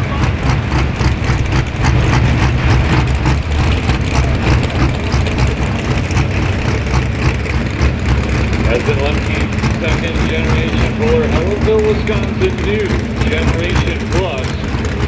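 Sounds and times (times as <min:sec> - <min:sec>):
tractor diesel engine crackling: 0:00.0 - 0:15.0.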